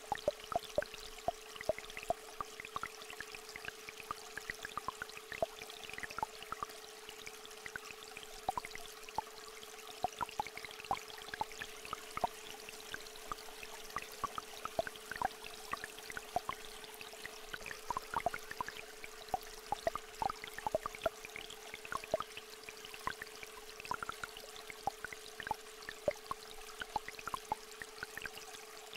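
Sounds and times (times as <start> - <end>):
small stream flowing: 0.0 - 28.9.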